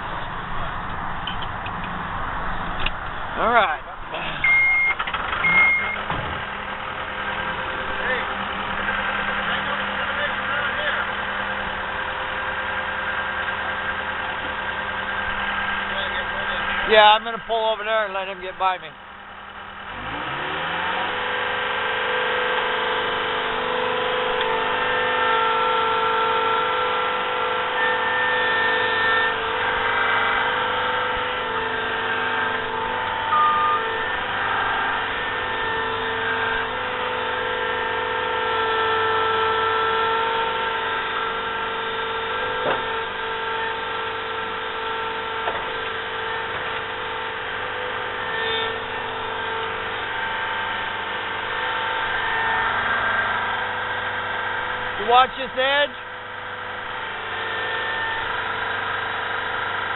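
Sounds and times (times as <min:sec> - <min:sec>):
hydraulic whine: 0:00.0 - 0:59.9
skid steer engine revving: 0:00.0 - 0:59.9.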